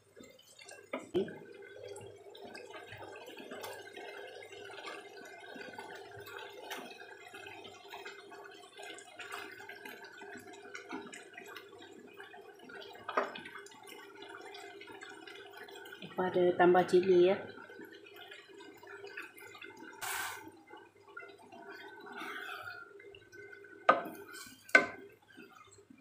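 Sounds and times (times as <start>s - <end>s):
gravy bubbling in a pan: 0.0s - 26.0s.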